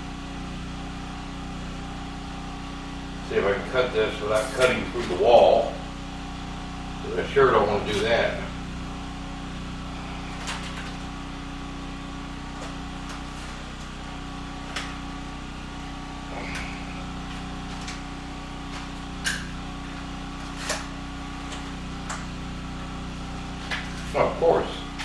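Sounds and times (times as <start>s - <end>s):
portable generator humming: 0.0s - 25.0s.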